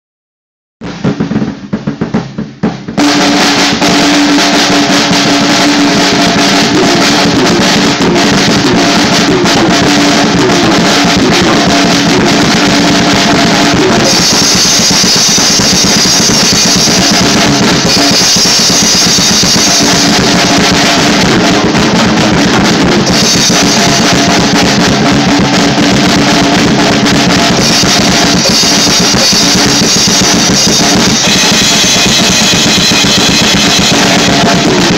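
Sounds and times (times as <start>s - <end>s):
loud drumming with cymbals: 0.8s - 34.9s.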